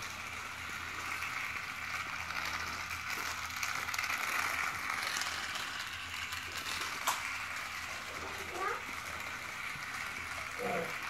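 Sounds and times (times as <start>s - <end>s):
toy car motor whirring: 0.0s - 11.0s
wheels rattling over plastic track: 0.0s - 11.0s.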